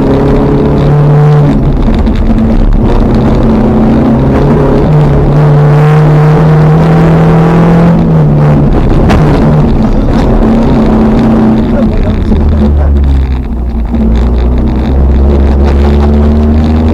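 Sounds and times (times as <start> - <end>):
car engine under load: 0.0 - 16.9.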